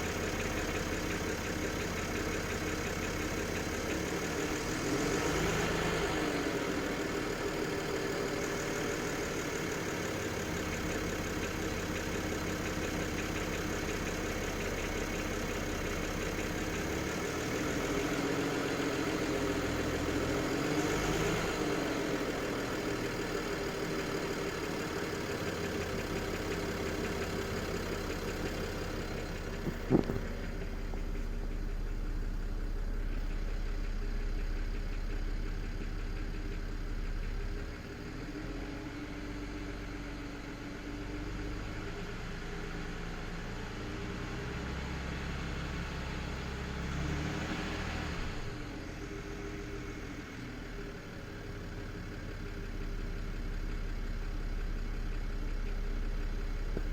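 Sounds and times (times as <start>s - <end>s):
car engine idling: 0.0s - 56.9s
engine clatter: 0.0s - 56.9s.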